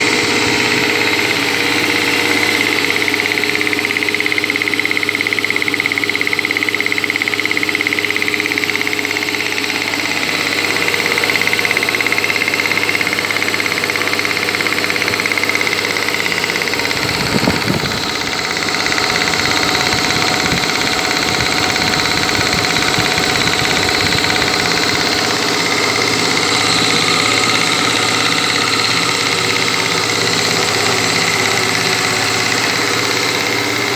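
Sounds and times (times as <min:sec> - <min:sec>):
air compressor humming: 0:00.0 - 0:33.9.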